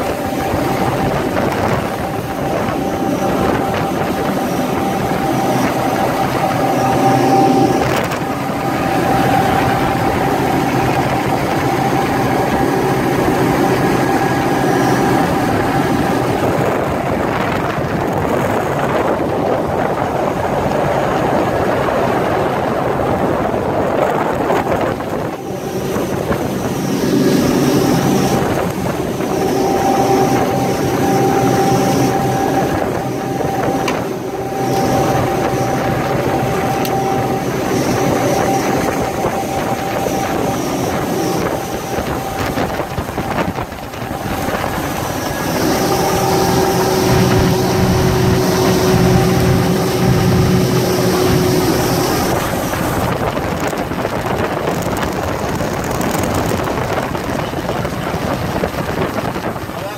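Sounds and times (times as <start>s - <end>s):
outboard engines running: 0.0s - 59.9s
water rushing past boat: 0.0s - 59.9s
wind rushing: 0.0s - 59.9s.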